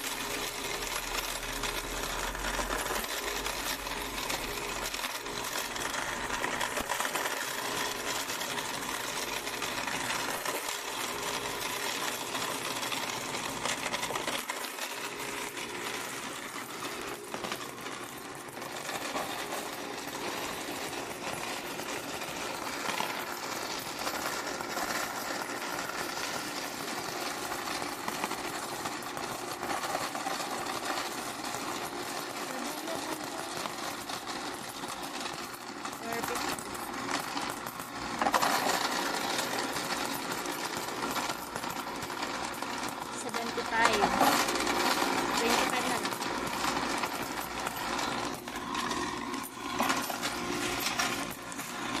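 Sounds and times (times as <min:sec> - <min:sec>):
coin counting machine clattering: 0:00.0 - 0:52.0.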